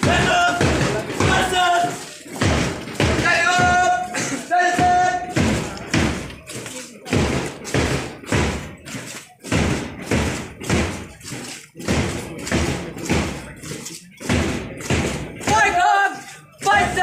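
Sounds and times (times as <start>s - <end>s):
marching footsteps thumping: 0.0s - 17.0s.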